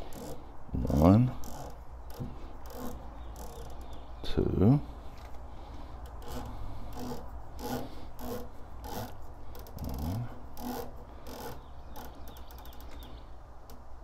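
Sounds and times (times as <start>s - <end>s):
scope turret rasping: 0.0s - 4.1s, 6.0s - 13.1s.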